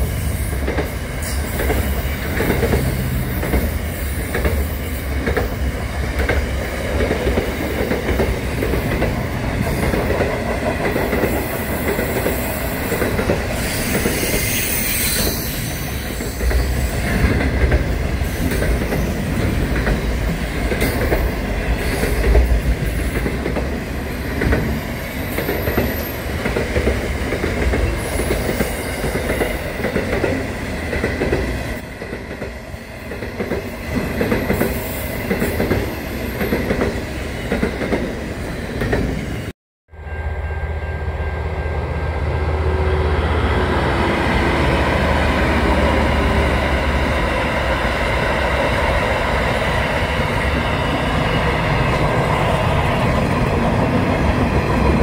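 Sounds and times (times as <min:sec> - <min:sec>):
diesel locomotive rumbling past: 0:00.0 - 0:55.0.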